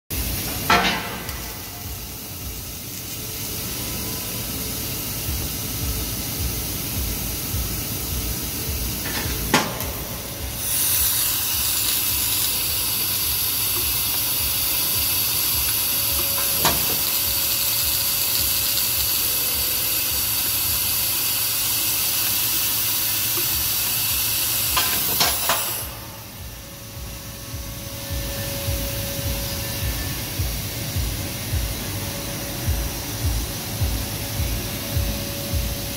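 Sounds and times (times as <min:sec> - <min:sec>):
laser cutter hissing: 0:00.1 - 0:35.9.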